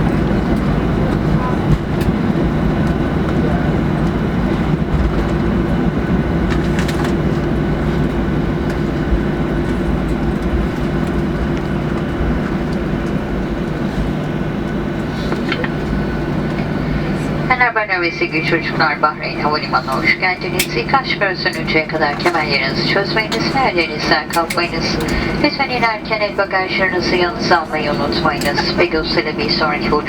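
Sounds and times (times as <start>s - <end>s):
aircraft engine hum: 0.0s - 30.0s.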